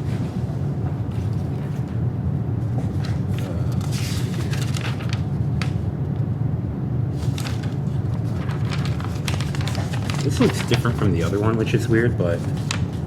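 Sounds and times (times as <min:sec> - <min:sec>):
paper rustling: 0:00.0 - 0:02.0, 0:02.6 - 0:05.9, 0:07.1 - 0:13.0
steady low hum: 0:00.0 - 0:13.0.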